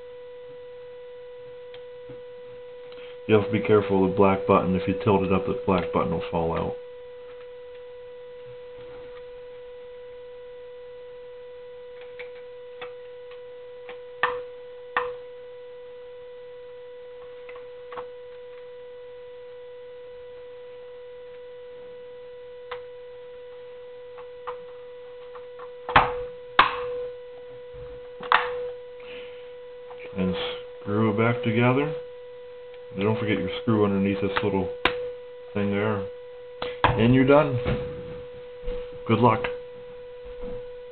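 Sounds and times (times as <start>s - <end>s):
electrical buzz: 0.0s - 40.9s.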